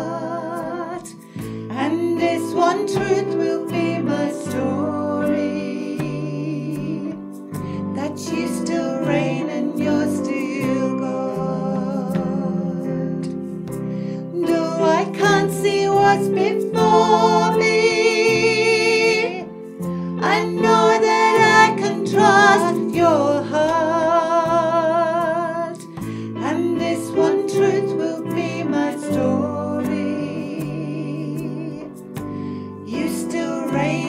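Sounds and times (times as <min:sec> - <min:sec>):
piano chords: 0:00.0 - 0:34.0
woman singing worship song: 0:00.0 - 0:34.0.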